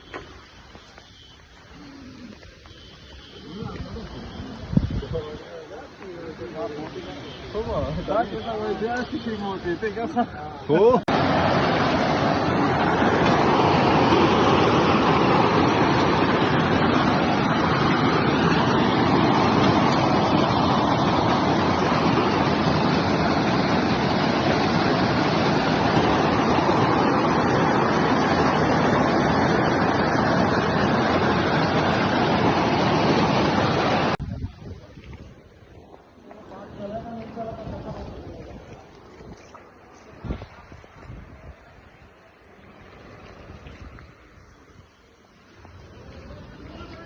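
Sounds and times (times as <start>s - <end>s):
water rushing: 0.0s - 47.0s.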